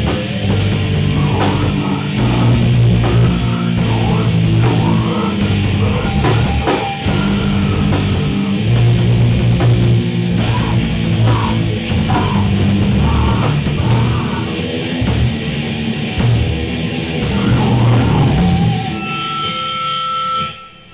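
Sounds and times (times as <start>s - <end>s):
heavy metal band playing: 0.0s - 20.9s.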